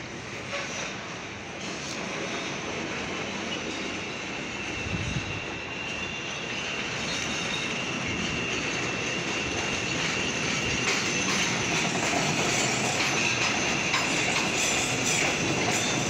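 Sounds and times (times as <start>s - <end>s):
train wheels rumbling on rails: 0.0s - 16.0s
high wheel squeal: 0.4s - 16.0s.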